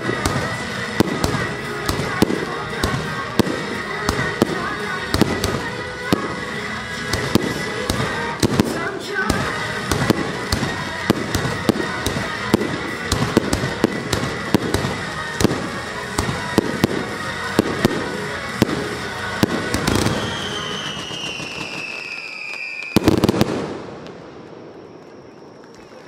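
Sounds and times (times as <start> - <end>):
music: 0.0 - 21.9
fireworks bangs: 0.0 - 26.0.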